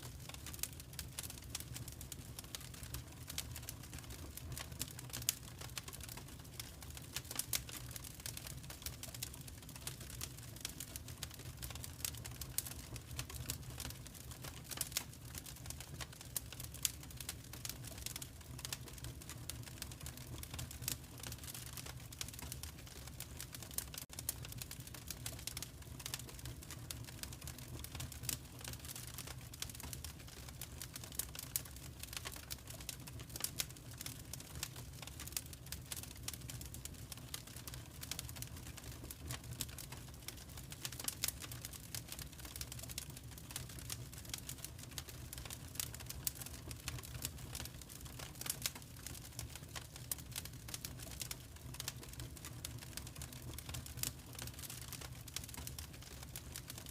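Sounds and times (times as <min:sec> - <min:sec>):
wood fire crackling: 0:00.0 - 0:56.9
low fire rumble: 0:00.1 - 0:56.9.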